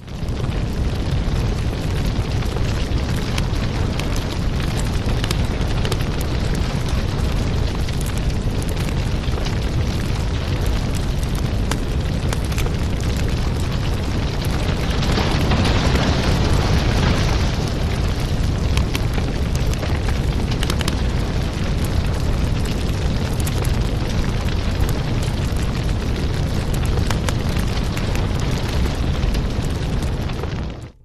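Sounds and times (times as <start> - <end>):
steady low rumble: 0.0 - 31.0
wood fire crackling and popping: 0.0 - 31.0.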